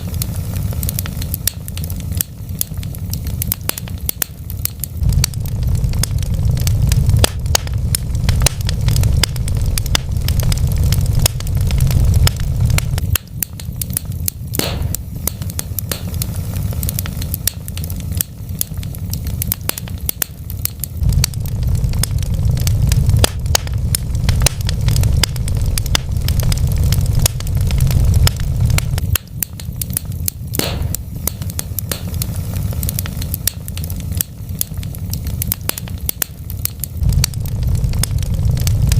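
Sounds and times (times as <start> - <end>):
deep fire rumble: 0.0 - 38.9
wood fire crackling and popping: 0.0 - 38.9.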